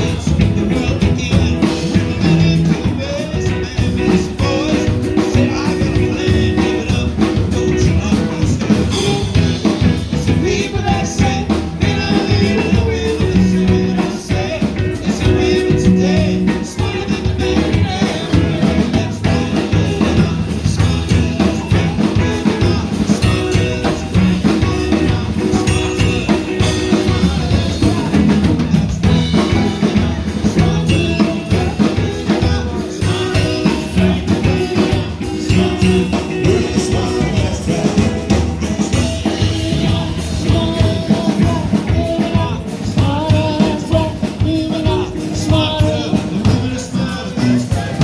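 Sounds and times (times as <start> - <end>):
band playing a song: 0.0 - 48.0
drum kit steady beat: 0.0 - 48.0.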